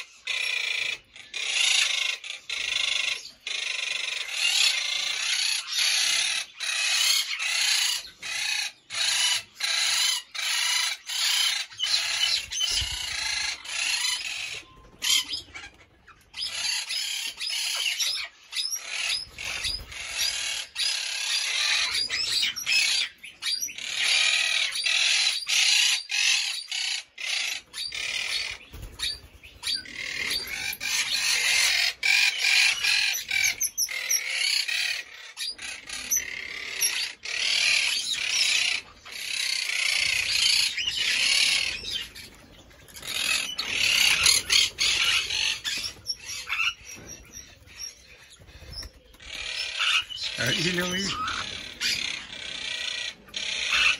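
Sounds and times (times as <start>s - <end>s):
parrots chirping and chattering: 0.0s - 53.9s.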